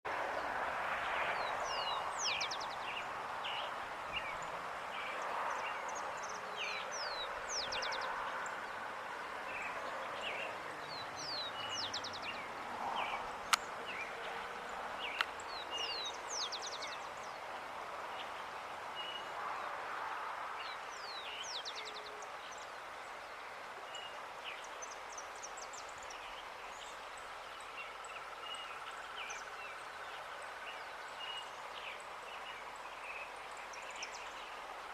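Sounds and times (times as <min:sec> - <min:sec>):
outdoor background noise: 0:00.0 - 0:34.9
small birds chirping: 0:01.3 - 0:19.7, 0:20.6 - 0:34.9.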